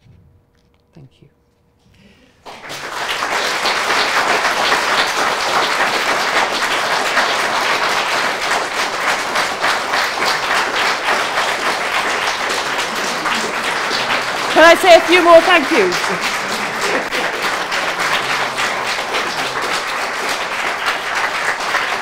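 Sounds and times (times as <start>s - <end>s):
audience applauding: 2.4s - 22.0s.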